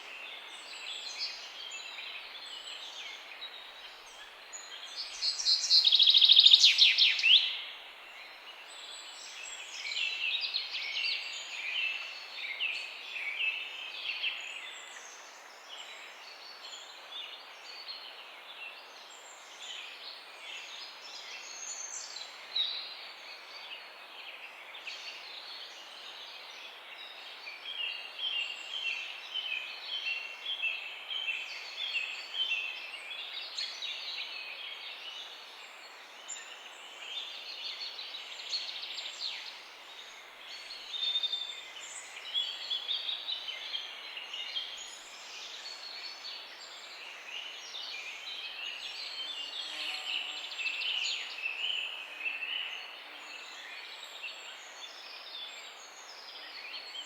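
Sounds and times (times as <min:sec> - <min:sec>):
soft steady hiss: 0:00.0 - 0:57.0.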